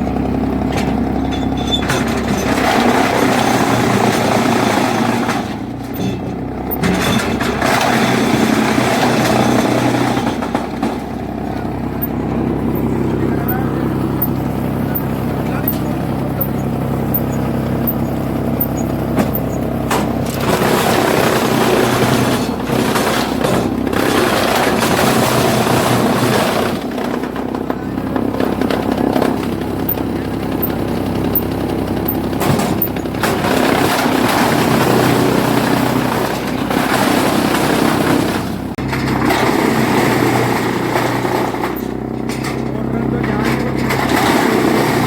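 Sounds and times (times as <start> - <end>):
wood chipper grinding: 0.0 - 45.0.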